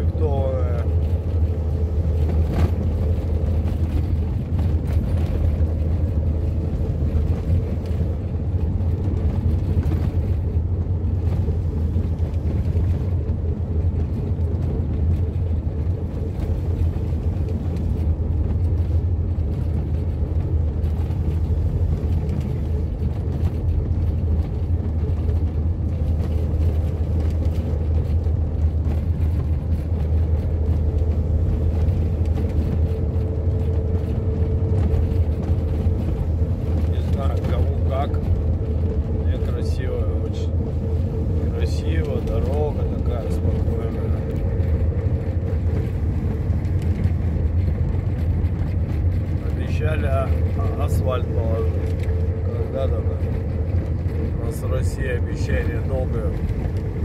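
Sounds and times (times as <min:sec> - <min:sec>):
vehicle driving on gravel road: 0:00.0 - 0:57.0.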